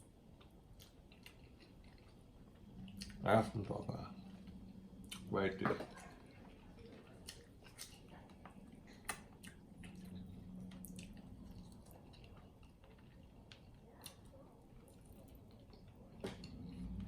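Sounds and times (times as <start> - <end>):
wet chewing and mouth sounds: 0.1 - 17.0.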